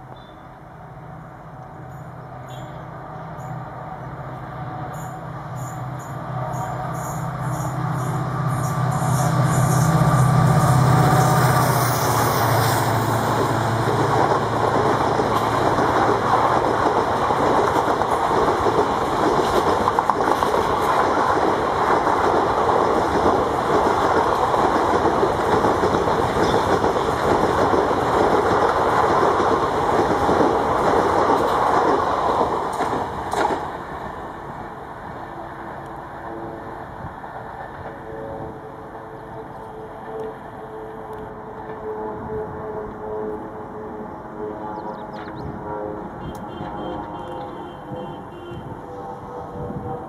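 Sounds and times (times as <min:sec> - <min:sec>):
diesel locomotive engine running hard: 0:00.0 - 0:50.0.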